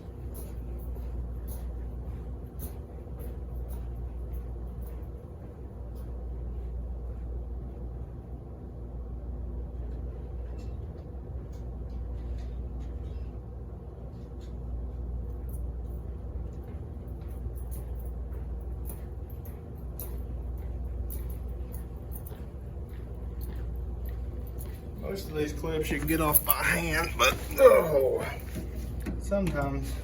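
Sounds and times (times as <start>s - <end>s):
laundromat machines humming: 0.0s - 30.0s.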